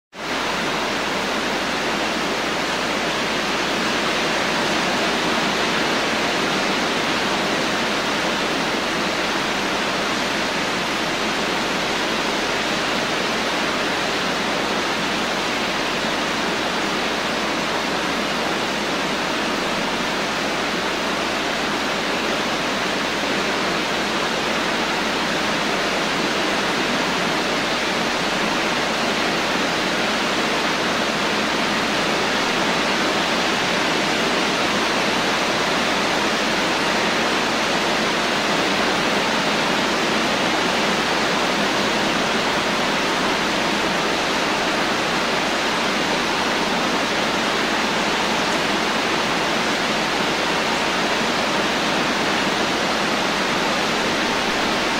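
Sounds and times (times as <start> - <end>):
steady rain hiss: 0.1 - 54.9.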